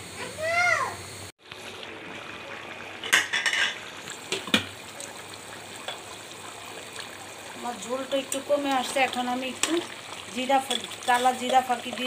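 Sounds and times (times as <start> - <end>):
curry bubbling in a pan: 1.4 - 12.0.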